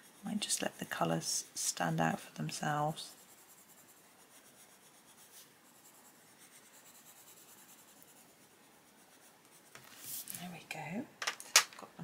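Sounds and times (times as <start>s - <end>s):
pencil scratching on paper: 0.0s - 10.3s.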